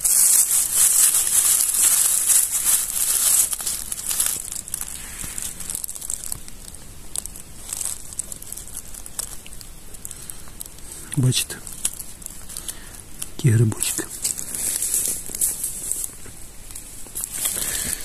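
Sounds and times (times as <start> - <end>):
dry vegetation rustling: 0.0 - 18.0.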